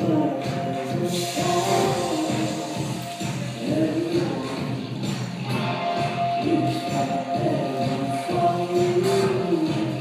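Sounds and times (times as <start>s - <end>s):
melodic music: 0.0s - 10.0s.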